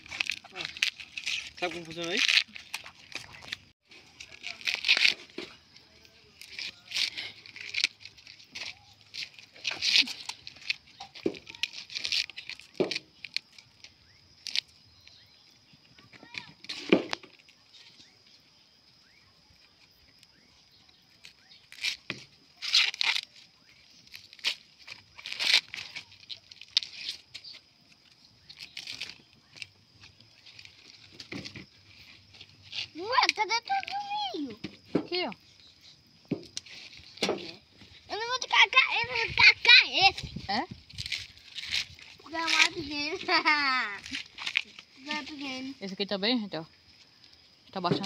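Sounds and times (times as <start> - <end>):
corn husks tearing and rustling: 0.0 - 15.4, 19.6 - 34.6, 35.5 - 46.1.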